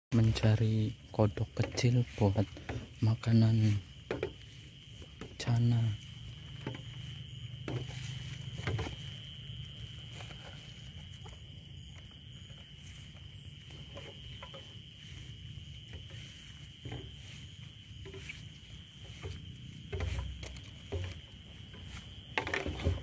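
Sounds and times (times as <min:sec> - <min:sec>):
footsteps in grass: 0:00.1 - 0:23.0
night insects chirring: 0:00.1 - 0:23.0
rustling in grass: 0:00.2 - 0:23.0.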